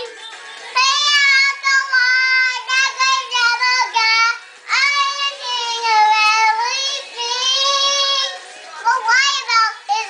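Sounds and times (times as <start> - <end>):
girl singing unaccompanied: 0.0 - 10.0.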